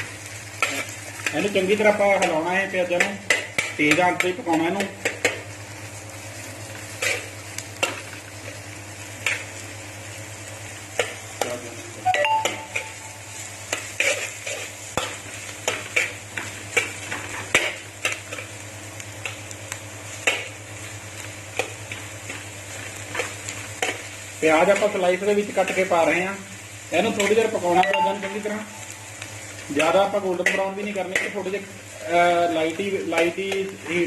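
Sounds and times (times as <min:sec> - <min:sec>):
onions sizzling in hot oil: 0:00.0 - 0:34.0.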